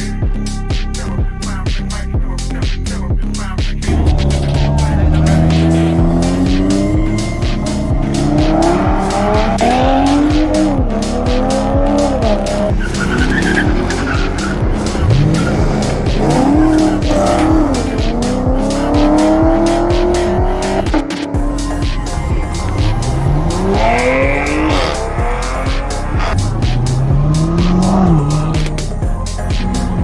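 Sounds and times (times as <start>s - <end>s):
loud music with heavy beat: 0.0s - 30.0s
car engine revving hard: 3.9s - 30.0s.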